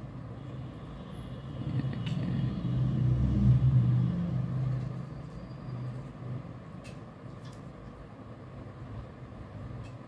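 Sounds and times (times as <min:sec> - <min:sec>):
low engine-like rumble: 0:00.0 - 0:10.0.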